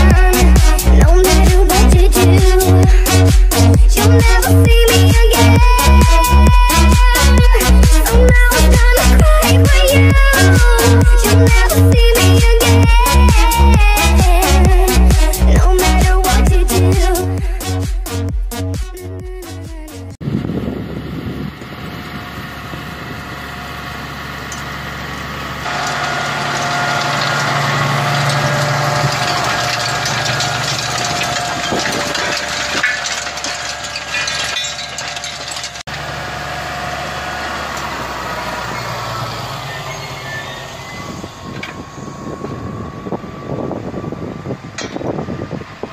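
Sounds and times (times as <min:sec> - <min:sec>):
tractor engine under load: 0:00.0 - 0:17.3, 0:20.2 - 0:45.9.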